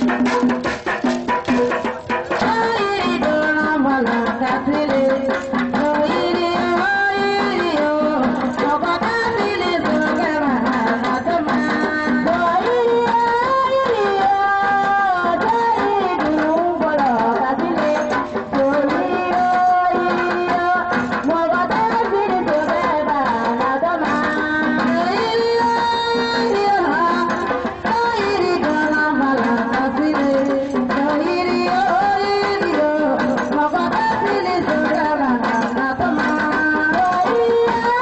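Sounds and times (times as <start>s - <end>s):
hand drums playing: 0.0s - 38.0s.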